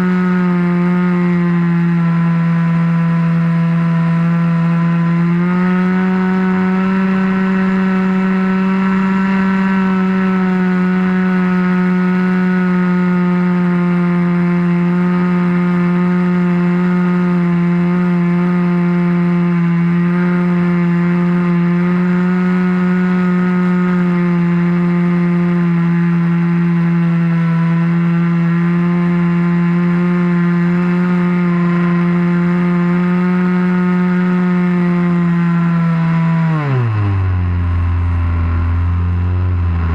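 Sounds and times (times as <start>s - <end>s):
model airplane engine and propeller: 0.0s - 39.9s.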